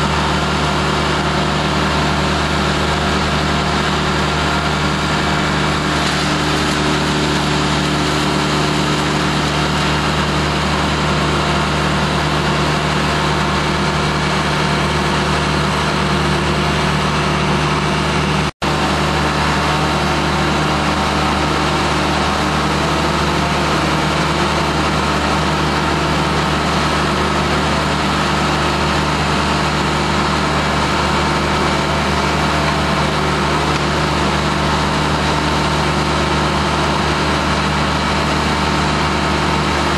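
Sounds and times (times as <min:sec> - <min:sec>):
large engine idling: 0:00.0 - 0:39.9.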